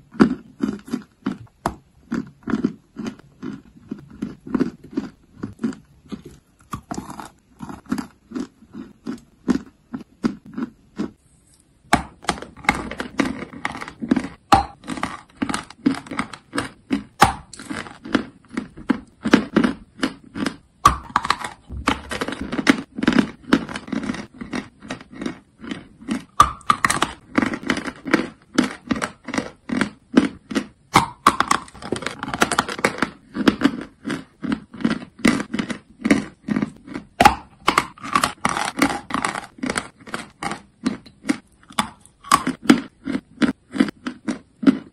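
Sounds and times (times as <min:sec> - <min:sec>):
crunchy chewing of chalk: 0:00.0 - 0:44.9.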